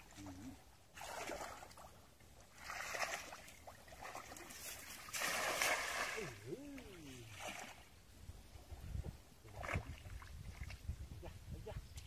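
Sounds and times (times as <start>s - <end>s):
pond water splashing: 0.0s - 11.1s.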